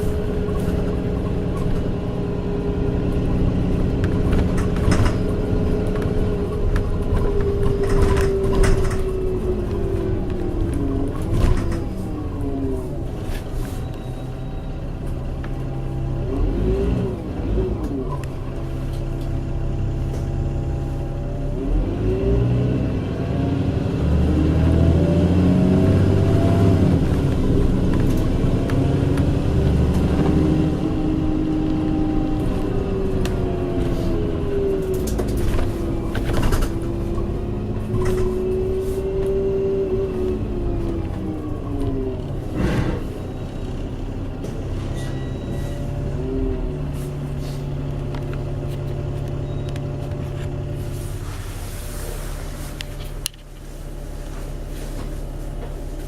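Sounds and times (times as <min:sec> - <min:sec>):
bus engine with tonal whine: 0:00.0 - 0:56.0.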